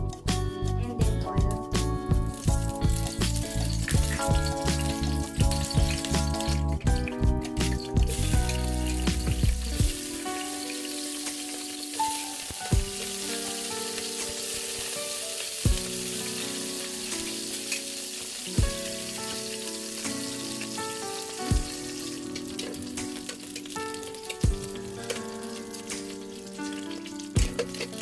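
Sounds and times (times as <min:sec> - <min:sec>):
food sizzling in hot oil: 0:01.0 - 0:28.0.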